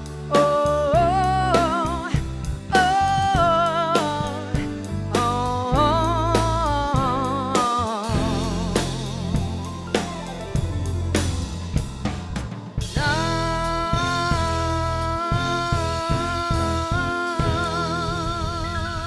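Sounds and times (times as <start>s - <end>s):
drum kit beat: 0.0s - 19.0s
live band music: 0.0s - 19.0s.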